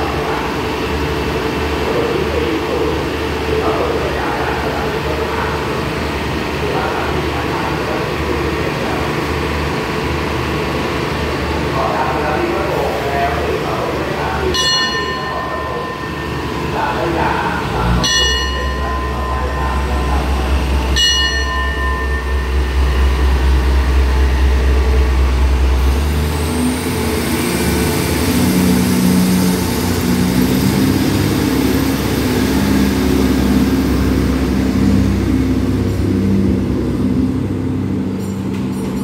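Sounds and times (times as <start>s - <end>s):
diesel train engine: 0.0s - 39.0s.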